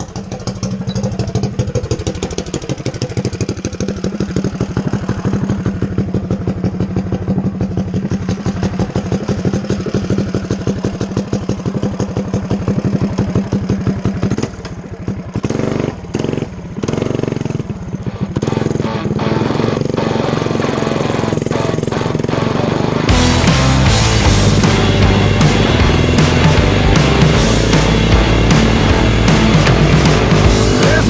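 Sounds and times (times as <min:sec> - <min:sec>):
small single-cylinder engine running: 0:00.0 - 0:31.0.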